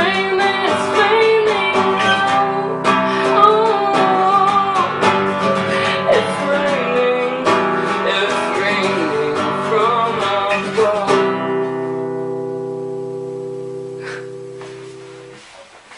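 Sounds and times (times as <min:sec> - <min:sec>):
acoustic guitar music: 0:00.0 - 0:15.9.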